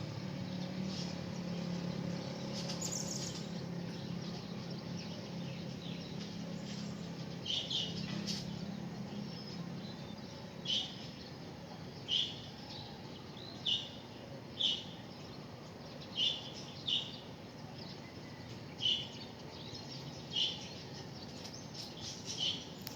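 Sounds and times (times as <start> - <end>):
small bird chirping: 0.9 - 14.0, 16.1 - 22.9.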